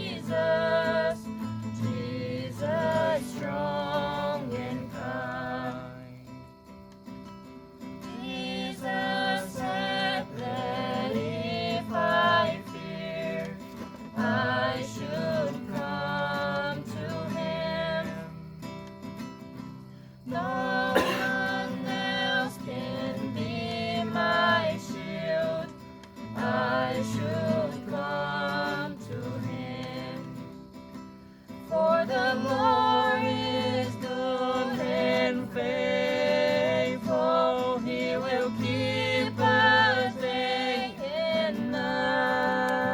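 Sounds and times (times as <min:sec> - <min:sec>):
voices singing: 0:00.0 - 0:06.4, 0:07.9 - 0:18.8, 0:20.0 - 0:42.9
acoustic guitar: 0:00.0 - 0:42.9.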